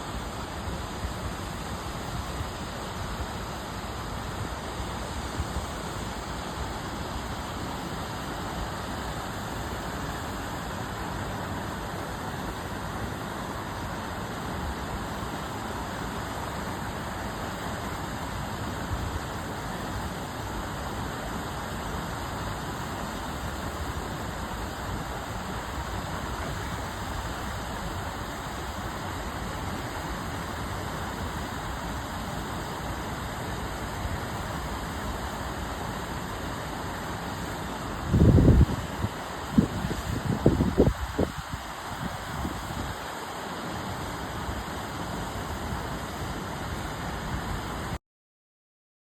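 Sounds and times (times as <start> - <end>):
waterfall rushing and splashing: 0.0 - 48.0.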